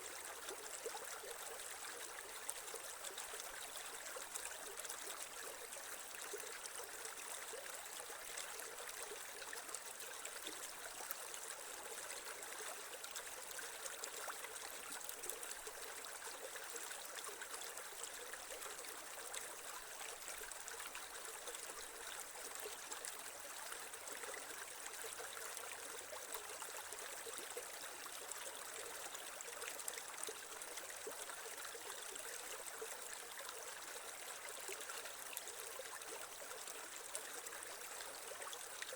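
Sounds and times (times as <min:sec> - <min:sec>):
creek water trickling over stones: 0:00.0 - 0:38.9.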